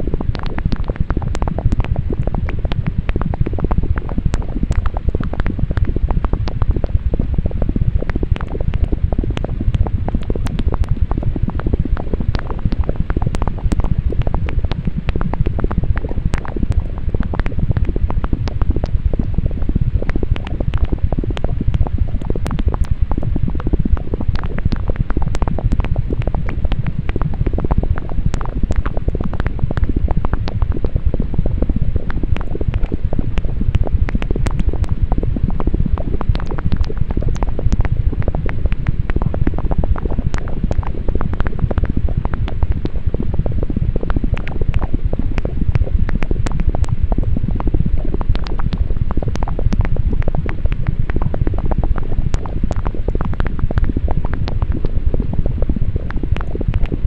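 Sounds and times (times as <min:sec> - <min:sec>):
crackling clicks: 0:00.0 - 0:57.0
low-pitched rumble: 0:00.0 - 0:57.0.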